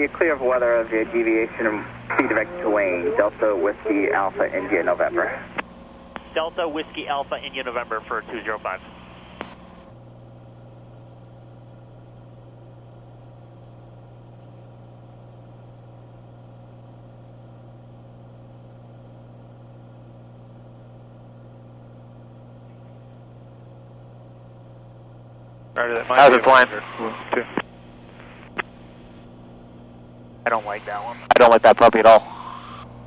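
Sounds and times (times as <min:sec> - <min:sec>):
muffled propeller plane engine drone: 0:00.0 - 0:33.0.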